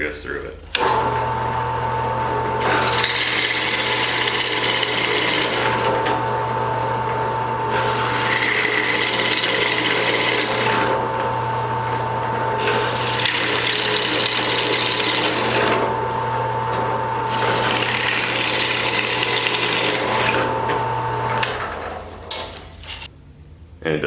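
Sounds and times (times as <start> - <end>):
drill press motor humming: 0.6 - 23.1
plug cutter rasping into wood: 0.7 - 23.1.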